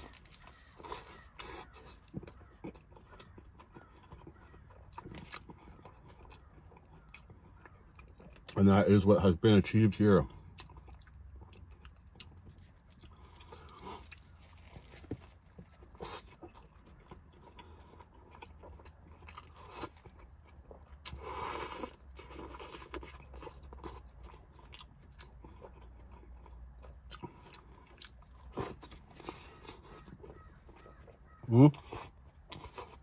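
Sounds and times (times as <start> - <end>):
man chewing burger: 0.0 - 33.0.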